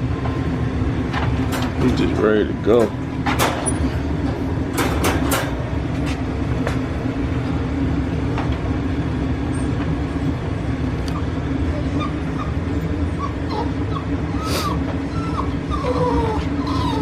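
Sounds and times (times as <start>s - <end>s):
constant hum: 0.0s - 17.0s
low mechanical rumble: 0.0s - 17.0s.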